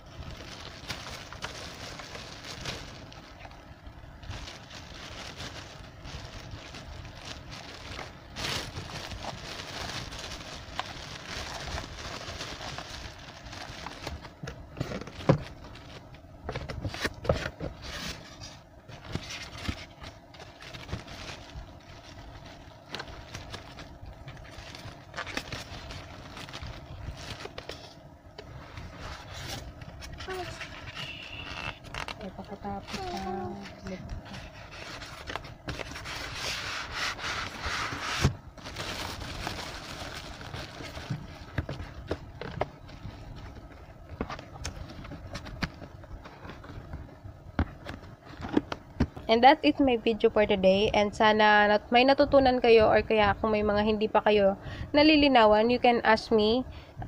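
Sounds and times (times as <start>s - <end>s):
plastic bag crinkling: 0.0s - 16.2s, 16.8s - 47.0s.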